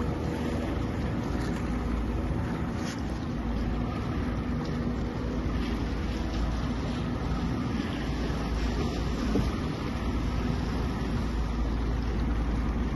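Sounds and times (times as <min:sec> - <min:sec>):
fishing boat engine rumble: 0:00.0 - 0:12.9
water noise: 0:00.0 - 0:12.9
wind: 0:00.0 - 0:12.9.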